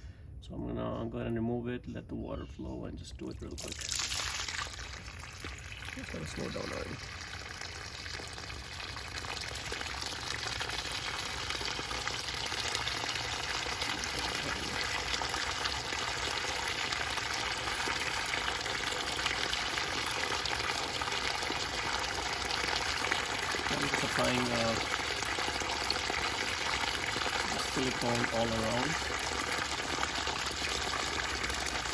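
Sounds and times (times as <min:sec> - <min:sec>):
water gushing from pipe fitting: 0:03.4 - 0:31.9.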